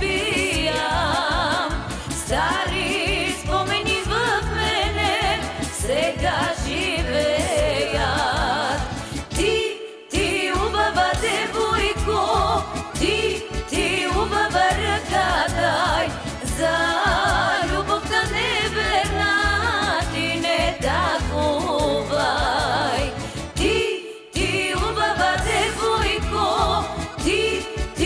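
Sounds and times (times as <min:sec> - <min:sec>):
women singing folk song: 0:00.0 - 0:28.0.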